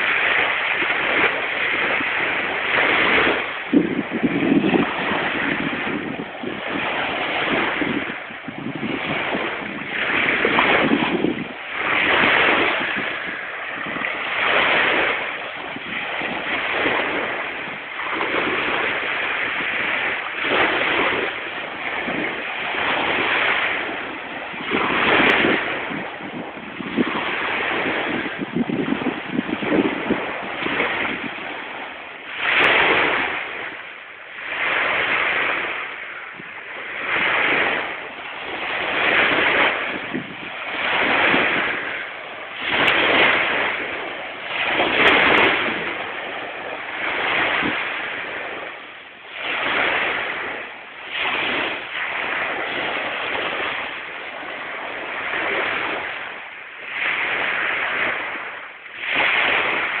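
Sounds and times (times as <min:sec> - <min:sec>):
small waves washing on beach: 0:00.0 - 1:00.0.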